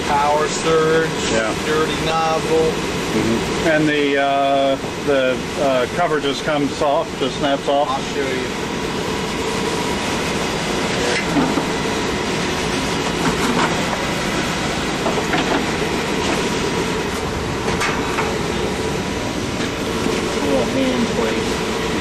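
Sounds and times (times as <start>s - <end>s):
furnace burner and blower: 0.0s - 22.0s.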